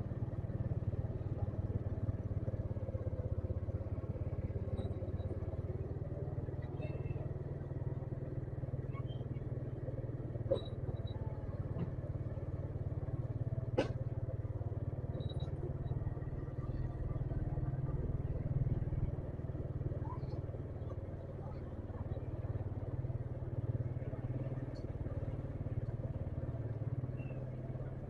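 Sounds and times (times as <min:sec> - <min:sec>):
motorcycle running: 0:00.0 - 0:28.0.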